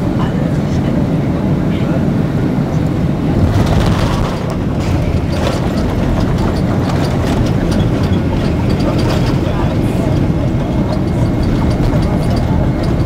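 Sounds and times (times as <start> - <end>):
jet cabin rumble: 0.0 - 13.0.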